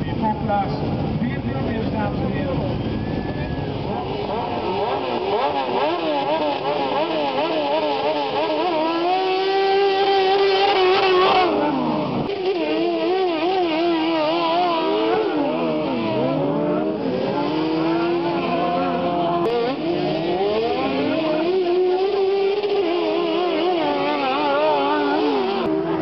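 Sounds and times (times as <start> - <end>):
lawn mower engines revving: 0.0 - 26.0.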